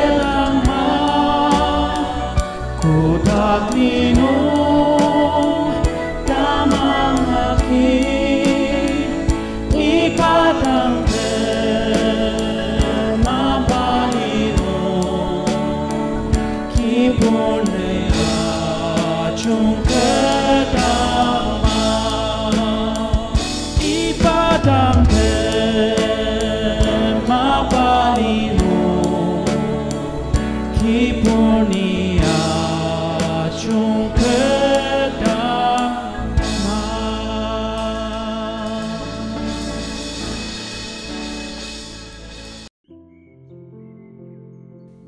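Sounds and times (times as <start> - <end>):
group singing gospel hymn: 0.0 - 42.4
instrumental accompaniment with beat: 0.0 - 42.7.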